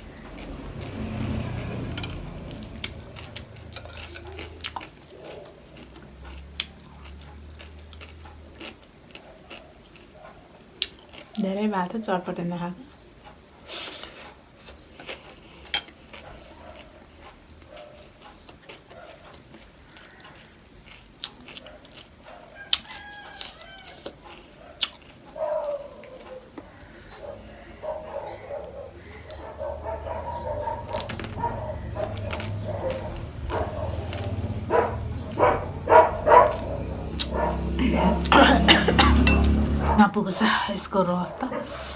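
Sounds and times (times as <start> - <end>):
crunching and chewing food: 0.0 - 12.1, 12.8 - 40.0.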